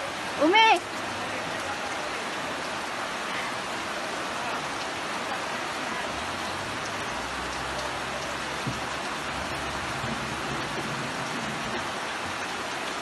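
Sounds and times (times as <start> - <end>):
fast-flowing floodwater: 0.0 - 13.0
rain hissing: 0.0 - 13.0.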